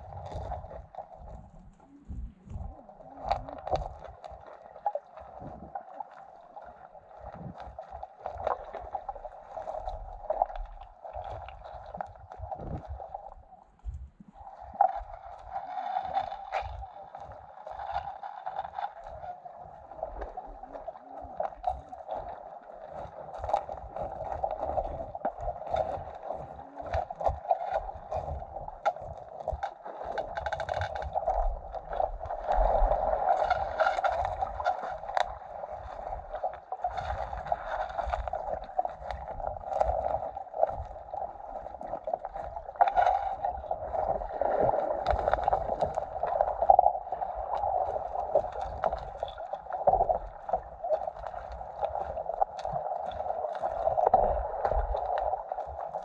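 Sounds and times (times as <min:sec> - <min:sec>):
water gurgling and sloshing: 0:00.0 - 0:56.0.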